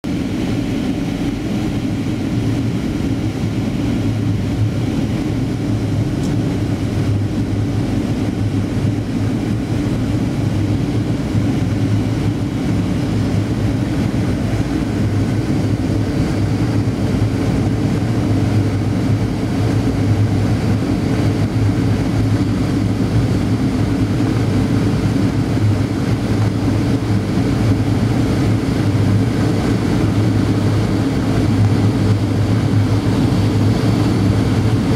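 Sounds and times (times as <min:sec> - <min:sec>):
jet engine cabin hum: 0:00.0 - 0:34.9.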